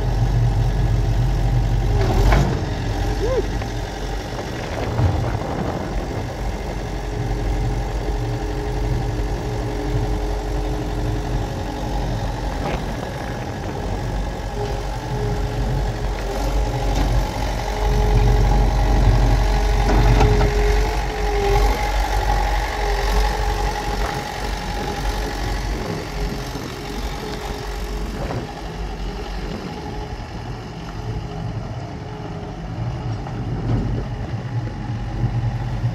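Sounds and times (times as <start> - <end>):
mower engine running: 0.0 - 35.9
steady mechanical whine: 0.0 - 35.9.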